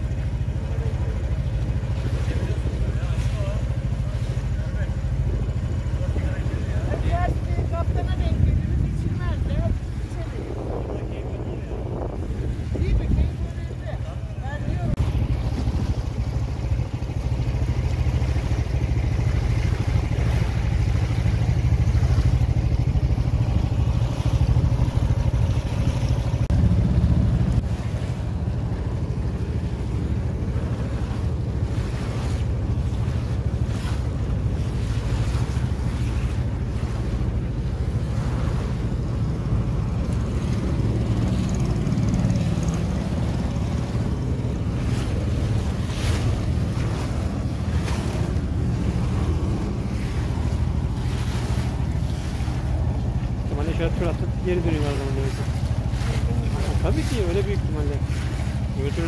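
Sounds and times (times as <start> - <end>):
boat motor rumble: 0.0 - 59.0
waves slapping hull: 0.0 - 59.0
wind buffeting microphone: 0.0 - 59.0.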